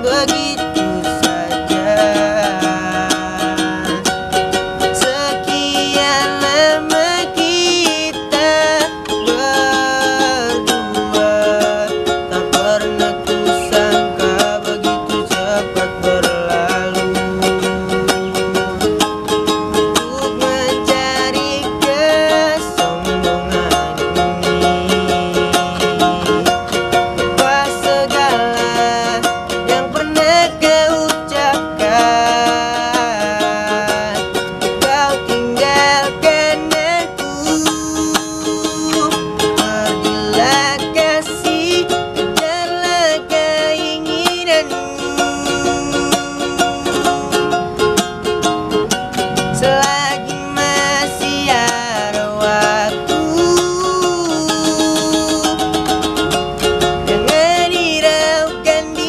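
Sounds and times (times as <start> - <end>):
boy singing: 0.0 - 48.1, 49.1 - 59.0
ukulele strumming: 0.0 - 59.0.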